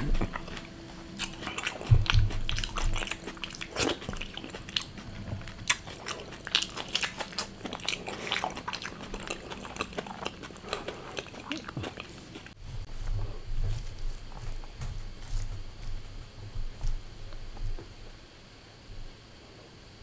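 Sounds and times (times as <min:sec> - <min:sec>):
person chewing crisp food: 0:00.0 - 0:16.1.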